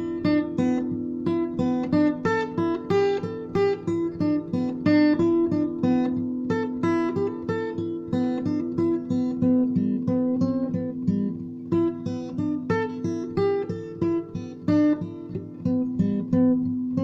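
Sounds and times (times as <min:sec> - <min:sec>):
acoustic guitar fingerpicking: 0:00.0 - 0:17.0.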